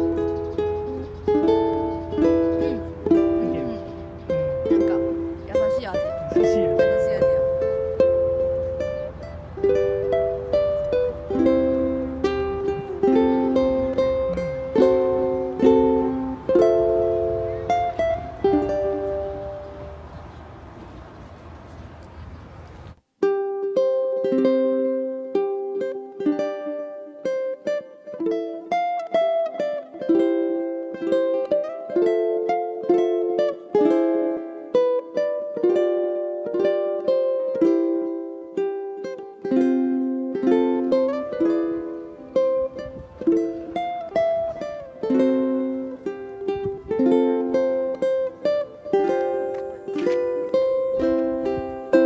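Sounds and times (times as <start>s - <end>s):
solo ukulele melody: 0.0s - 52.0s.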